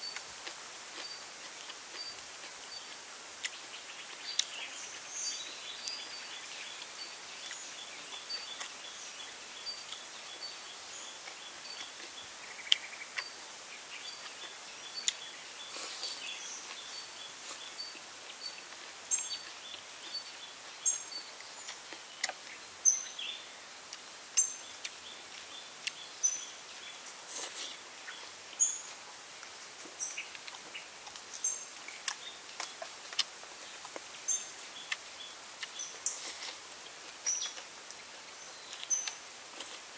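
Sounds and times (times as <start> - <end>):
birds chirping: 1.9 - 37.7, 38.3 - 39.7.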